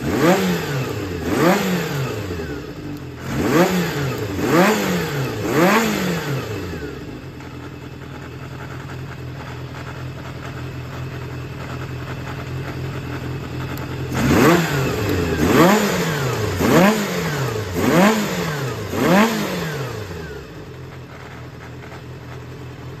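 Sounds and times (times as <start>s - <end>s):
engine throttle blips: 0.0s - 22.4s
motorcycle engine idling: 0.0s - 23.0s.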